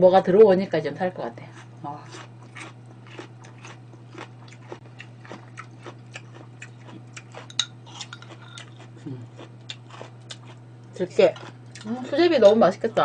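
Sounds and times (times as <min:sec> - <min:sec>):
steady low hum: 0:00.0 - 0:13.0
close chewing and mouth noises: 0:01.4 - 0:12.1.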